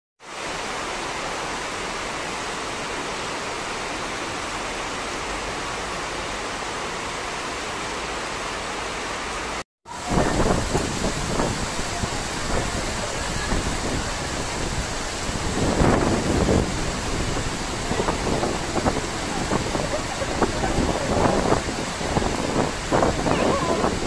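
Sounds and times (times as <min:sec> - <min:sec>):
heavy rain pouring: 0:00.2 - 0:24.0.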